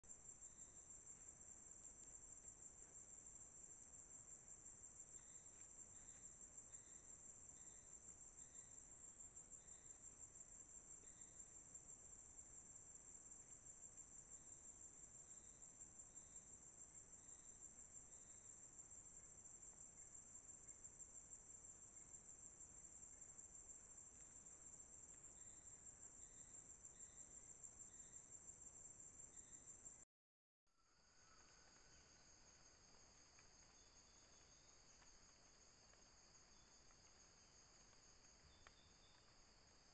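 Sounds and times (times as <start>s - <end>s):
high-pitched insect chorus: 0.1s - 30.0s, 30.8s - 39.9s.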